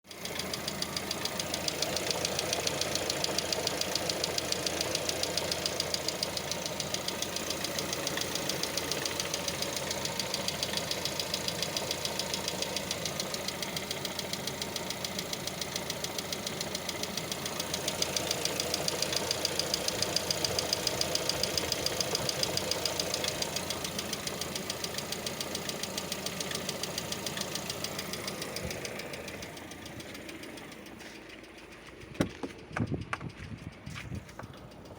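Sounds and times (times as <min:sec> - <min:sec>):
car engine idling: 0:00.0 - 0:34.9
valve lifters ticking: 0:00.2 - 0:34.9.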